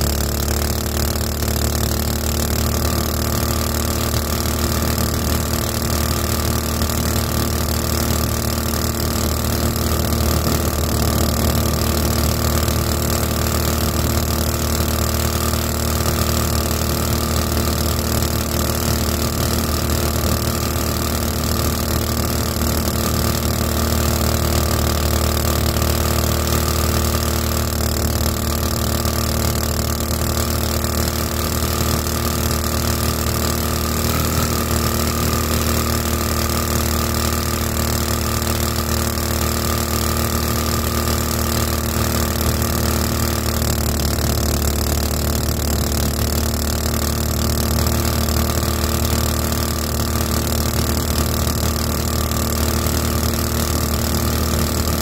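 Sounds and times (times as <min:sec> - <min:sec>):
boat motor running: 0:00.0 - 0:55.0.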